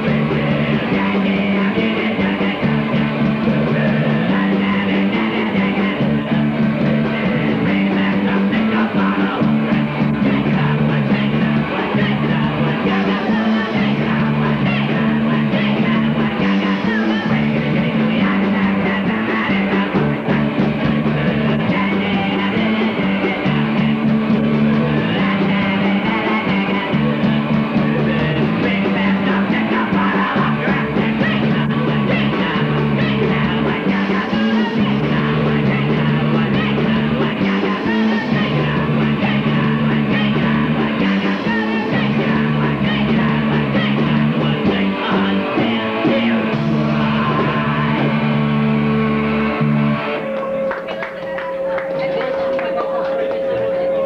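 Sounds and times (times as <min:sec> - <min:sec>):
bass guitar: 0:00.0 - 0:54.0
drums: 0:00.0 - 0:54.0
electric guitars: 0:00.0 - 0:54.0
person singing: 0:00.0 - 0:54.0.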